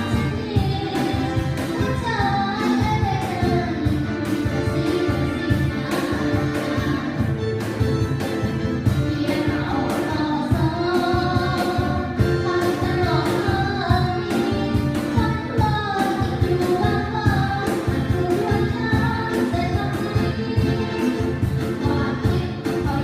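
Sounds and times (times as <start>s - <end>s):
person singing: 0.0s - 7.4s, 8.9s - 23.0s
live band playing pop song: 0.0s - 23.0s.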